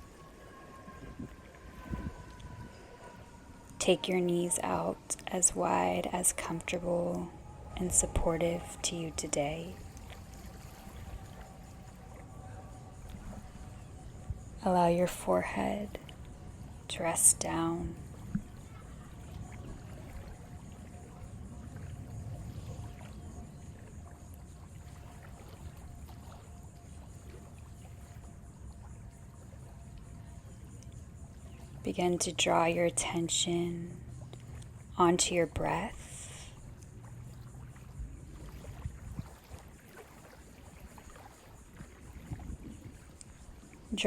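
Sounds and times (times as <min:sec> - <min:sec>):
ocean waves washing in: 0:00.0 - 0:44.0
wind: 0:00.0 - 0:44.0.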